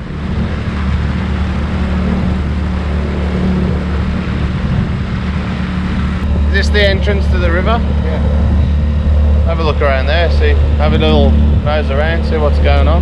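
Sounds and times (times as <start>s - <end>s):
outboard motor running: 0.0s - 13.0s
wind and water rushing: 0.0s - 13.0s.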